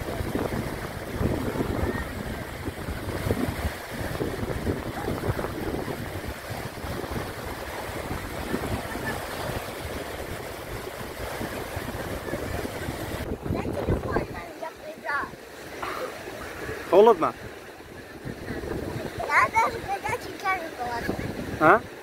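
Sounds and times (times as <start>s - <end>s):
small waves breaking: 0.0s - 22.0s
wind buffeting microphone: 0.0s - 22.0s.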